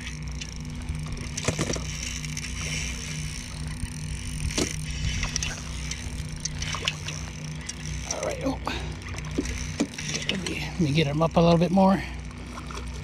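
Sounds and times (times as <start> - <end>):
boat low hum: 0.0 - 13.0
fishing reel cranking: 0.0 - 13.0.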